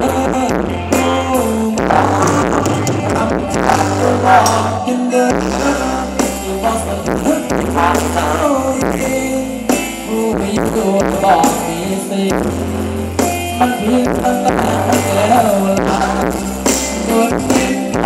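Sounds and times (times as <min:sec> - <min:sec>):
drums: 0:00.0 - 0:18.0
live band dance music: 0:00.0 - 0:18.0
repeating bass line: 0:00.0 - 0:18.0.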